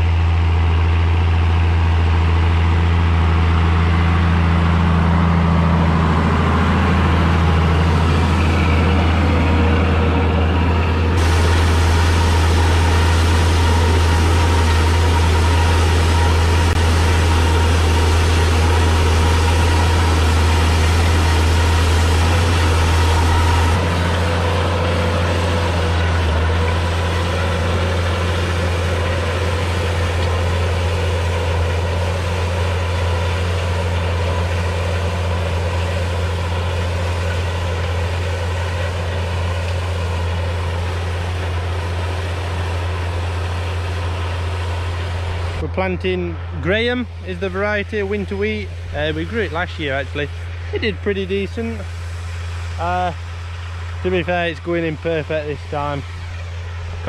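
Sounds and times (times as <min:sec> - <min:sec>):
tractor diesel engine drone: 0:00.0 - 0:57.0.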